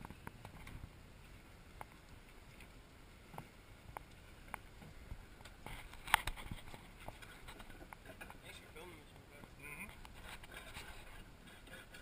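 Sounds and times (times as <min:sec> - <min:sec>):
water around a boat: 0:00.0 - 0:12.0
wind: 0:00.0 - 0:12.0.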